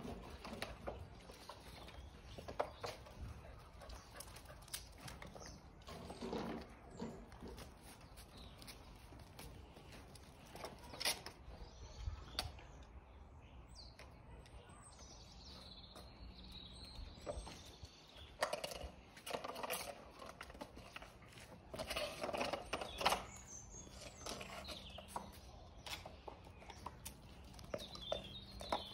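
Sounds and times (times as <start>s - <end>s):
birds chirping: 0.0s - 28.9s
puppy paws and claws on paving: 0.0s - 28.9s.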